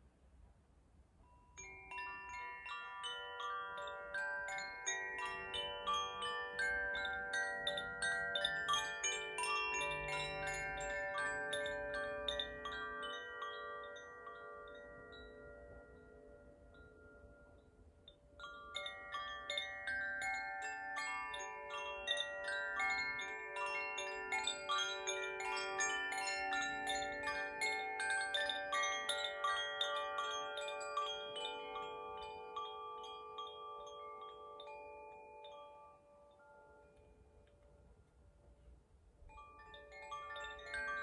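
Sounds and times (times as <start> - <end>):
wind chimes ringing: 1.2 - 41.0.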